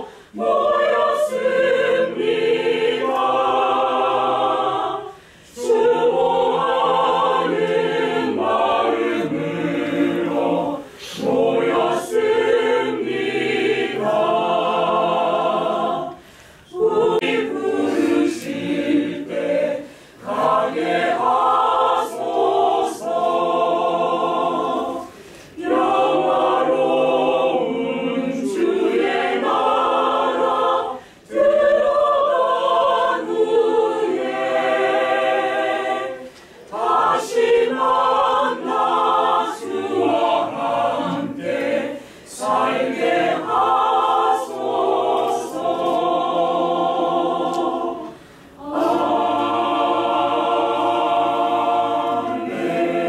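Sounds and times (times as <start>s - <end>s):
mixed choir singing a hymn: 0.0s - 53.0s.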